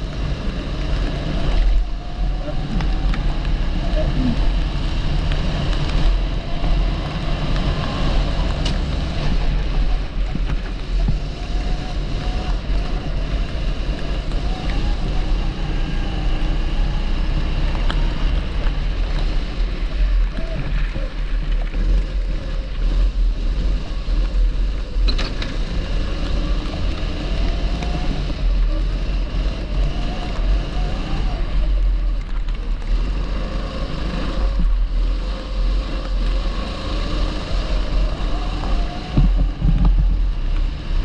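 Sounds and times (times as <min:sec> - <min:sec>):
kart engine revving: 0:00.0 - 0:41.0.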